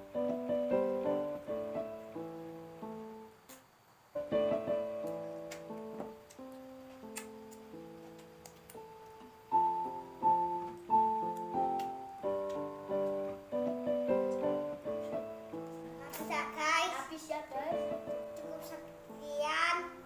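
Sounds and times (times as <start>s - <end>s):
piano melody: 0.0s - 3.4s, 4.1s - 20.0s.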